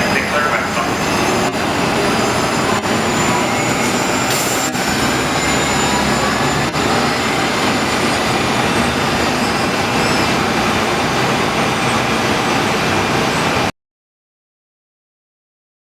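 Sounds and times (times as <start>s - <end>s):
bus running with rushing noise: 0.0s - 13.7s.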